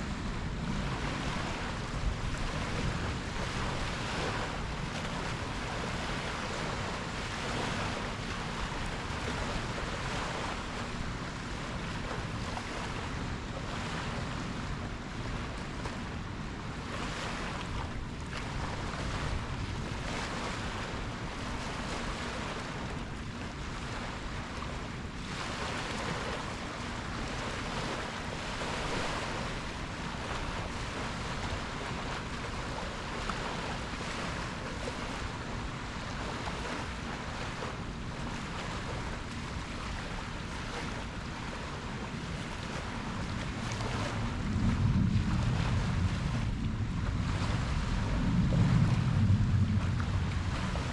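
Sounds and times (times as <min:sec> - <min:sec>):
ocean waves washing in: 0:00.0 - 0:50.9.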